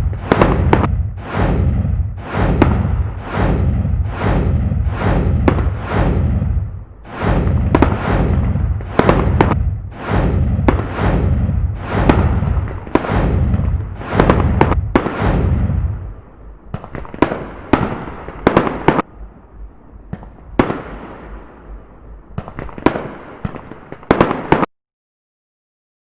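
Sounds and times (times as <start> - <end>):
fireworks bangs and crackles: 0.0 - 24.7.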